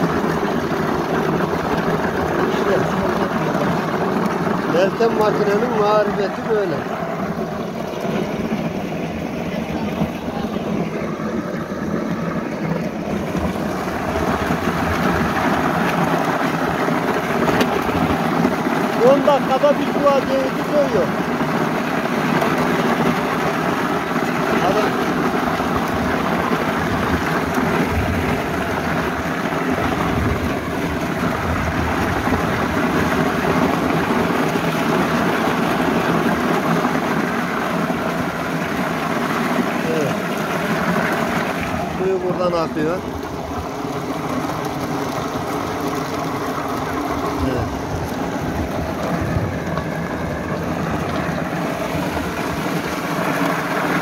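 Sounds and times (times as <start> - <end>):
hulling machine churning: 0.0 - 54.0
running water: 0.0 - 54.0.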